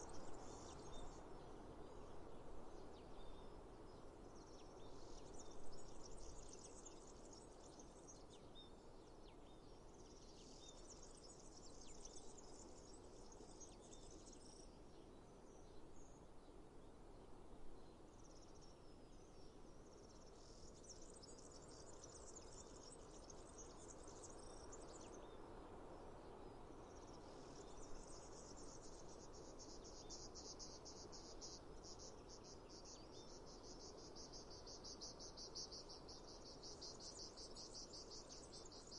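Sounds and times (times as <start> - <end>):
soft background hiss: 0.0 - 38.9.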